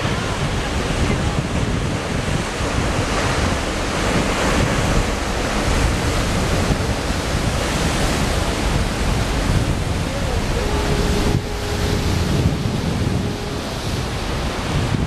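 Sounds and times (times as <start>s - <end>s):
ocean waves breaking on rocks: 0.0s - 15.0s
wind gusting on microphone: 0.0s - 15.0s.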